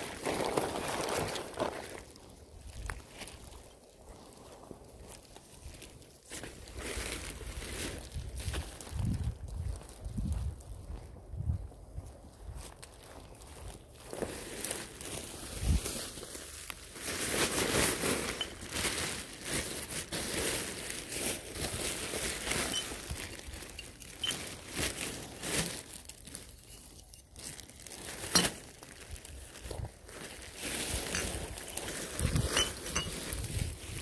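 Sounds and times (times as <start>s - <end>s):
plastic bags rustling and crinkling: 0.0s - 11.2s, 12.0s - 34.0s.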